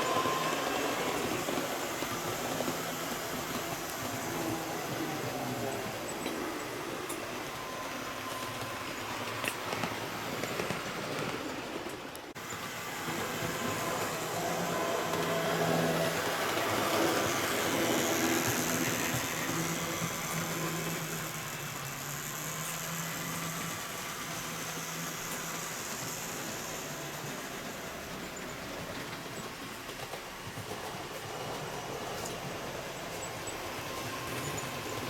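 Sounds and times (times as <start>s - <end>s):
model train motor hum: 0.0s - 35.0s
wheels rumbling on rails: 0.0s - 35.0s.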